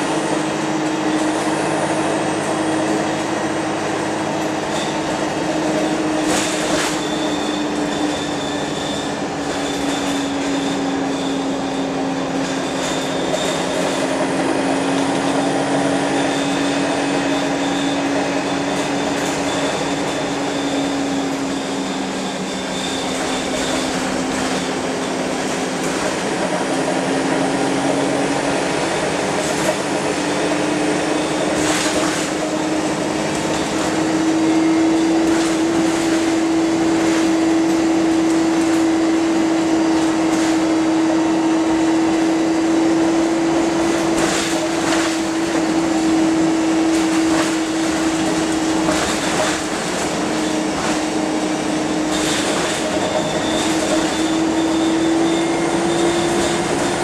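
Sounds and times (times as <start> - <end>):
bus drivetrain whine: 0.0 - 57.0
bus running and road noise: 0.0 - 57.0.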